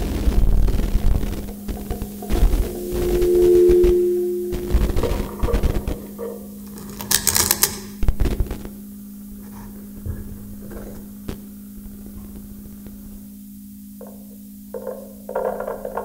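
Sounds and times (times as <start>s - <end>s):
low electronic hum: 0.0s - 16.0s.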